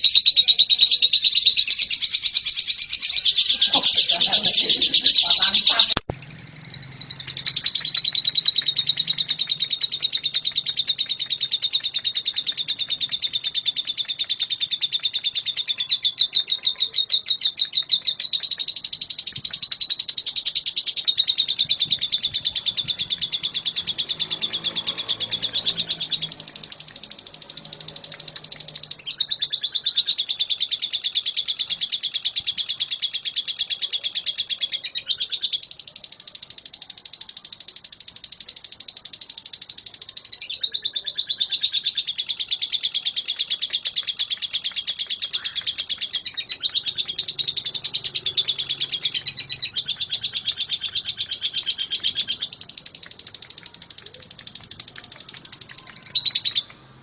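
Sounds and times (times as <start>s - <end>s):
lovebird chattering twitter: 0.0s - 57.0s.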